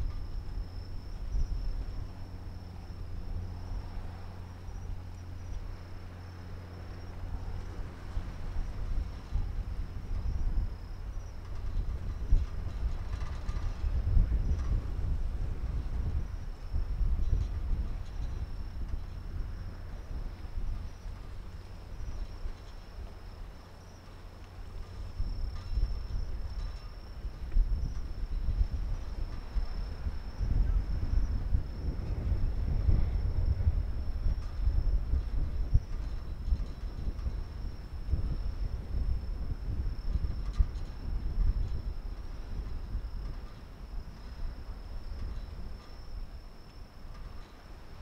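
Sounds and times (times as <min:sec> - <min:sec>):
crickets chirping: 0:00.0 - 0:48.0
low uneven rumble: 0:00.0 - 0:48.0.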